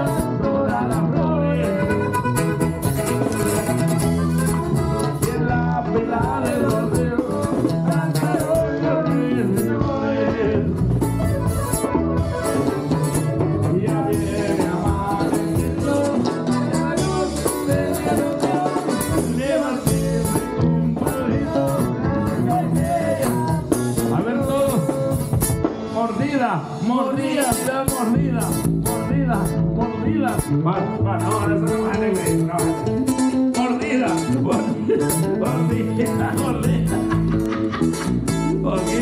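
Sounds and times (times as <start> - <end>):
guitar: 0.0 - 39.0
latin band playing: 0.0 - 39.0
person singing: 0.0 - 39.0.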